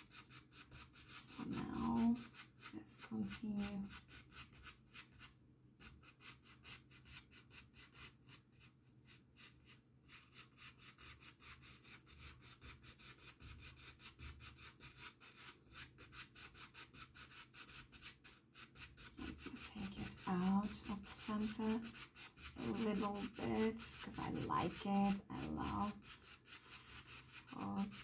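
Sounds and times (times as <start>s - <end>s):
brush scrubbing on canvas: 0.0s - 28.0s.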